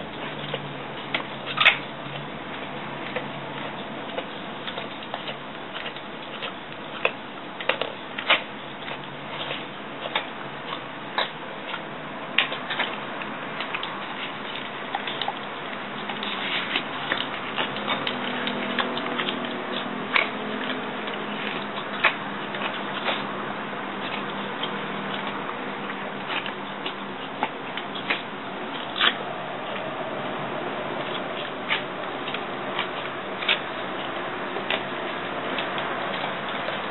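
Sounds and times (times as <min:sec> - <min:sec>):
pet chewing food: 0:00.0 - 0:36.9.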